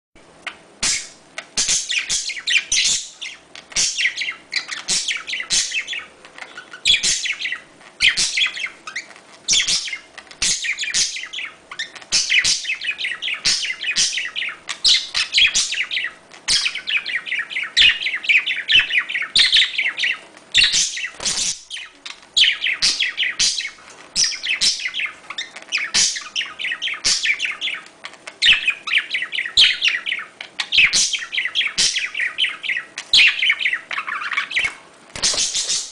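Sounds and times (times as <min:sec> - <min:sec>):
parrots chirping and chattering: 0:00.4 - 0:35.9.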